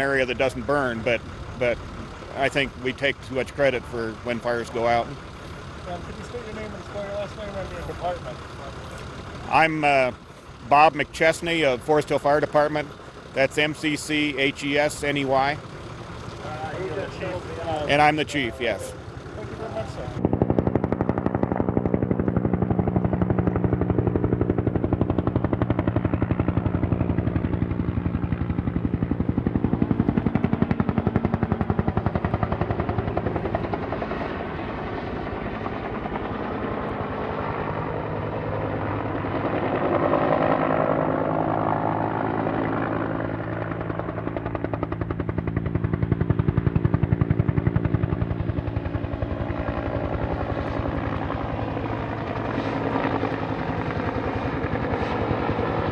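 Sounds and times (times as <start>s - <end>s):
helicopter rotor beat: 0.0s - 55.9s
turbine drone: 0.0s - 55.9s.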